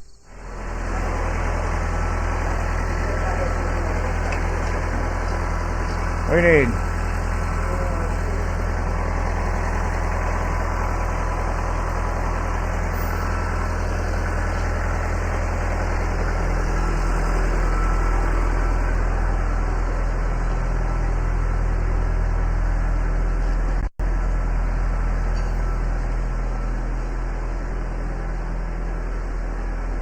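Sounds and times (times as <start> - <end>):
large engine idling: 0.0 - 30.0.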